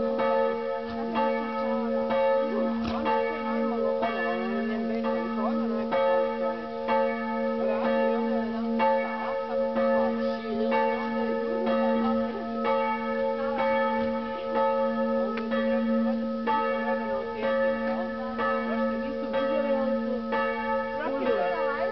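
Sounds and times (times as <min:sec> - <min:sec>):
church bell ringing: 0:00.0 - 0:21.9.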